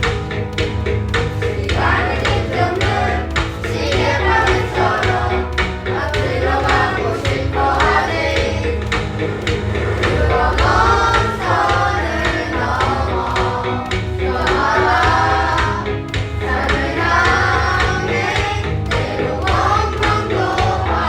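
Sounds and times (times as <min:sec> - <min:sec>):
backing track with bass and drums: 0:00.0 - 0:21.0
children's choir singing in unison: 0:00.0 - 0:21.0.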